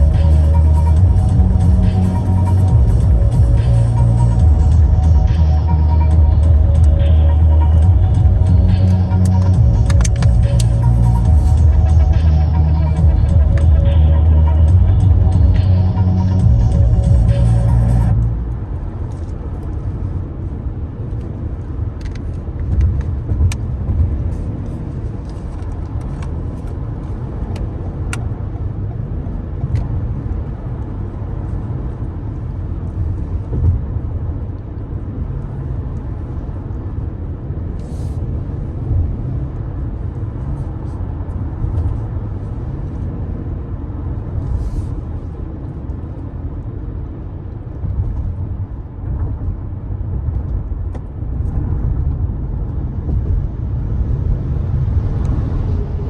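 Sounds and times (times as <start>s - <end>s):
car driving low rumble: 0.0s - 56.0s
road noise: 0.0s - 56.0s.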